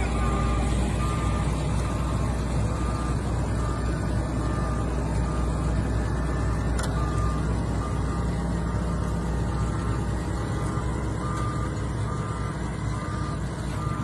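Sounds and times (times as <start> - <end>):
backup alarm beeping: 0.0 - 14.0
diesel engine under load: 0.0 - 14.0.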